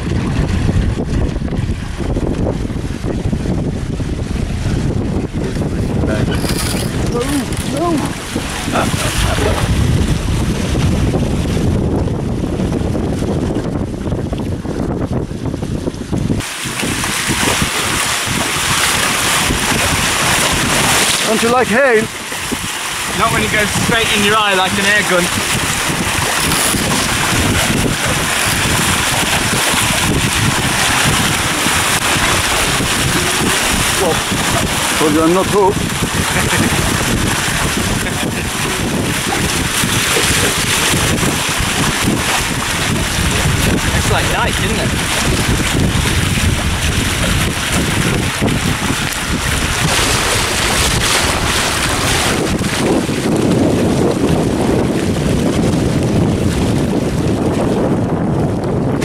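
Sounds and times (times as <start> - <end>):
water rushing past hull: 0.0 - 59.0
wind buffeting microphone: 0.0 - 59.0.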